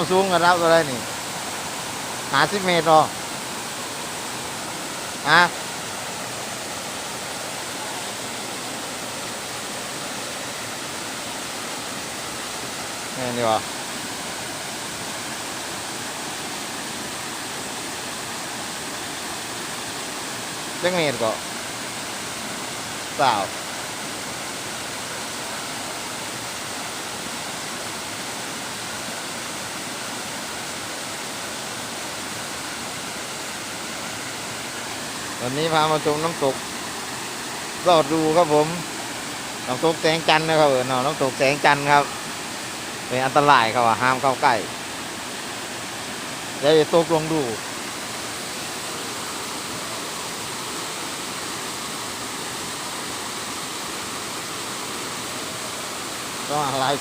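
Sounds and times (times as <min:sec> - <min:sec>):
waterfall pouring: 0:00.0 - 0:57.0.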